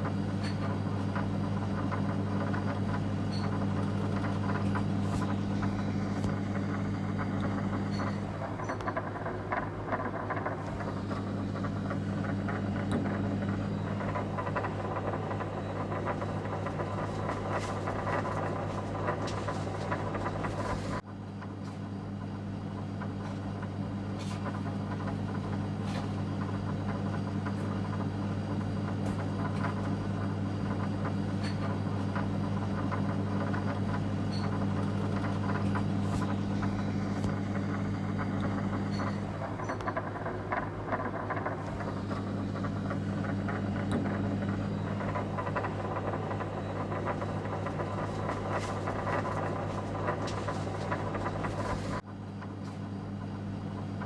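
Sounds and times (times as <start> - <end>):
low mechanical engine drone: 0.0 - 21.0, 22.9 - 52.1.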